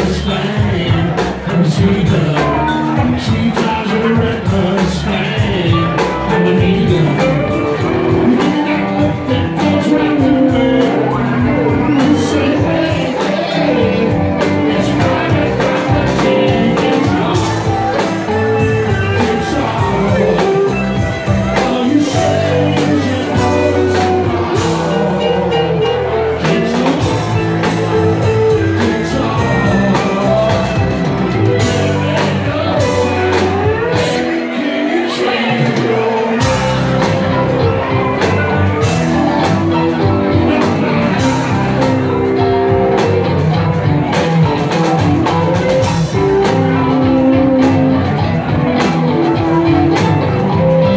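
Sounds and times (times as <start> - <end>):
lead vocal singing: 0.0 - 50.9
rock band playing live: 0.0 - 50.9.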